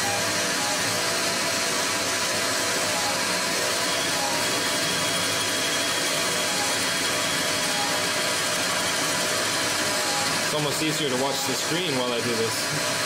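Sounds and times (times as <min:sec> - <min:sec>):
lathe running: 0:00.0 - 0:13.0.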